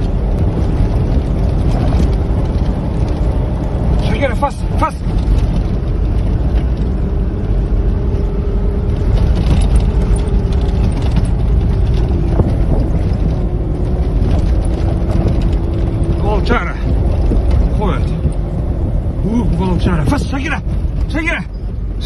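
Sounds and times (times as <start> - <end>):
engine and tyres rumbling: 0.0 - 22.0
faint engine drone: 0.0 - 22.0.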